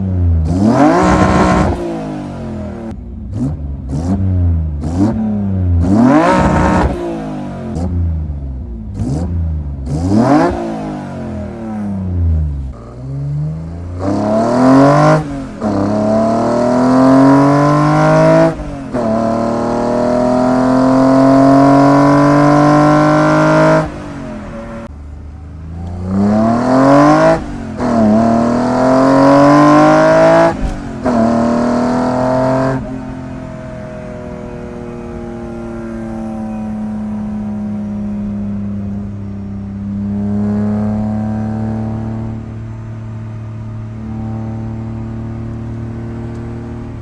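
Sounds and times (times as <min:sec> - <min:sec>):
car engine revving hard: 0:00.0 - 0:24.9, 0:25.7 - 0:47.0.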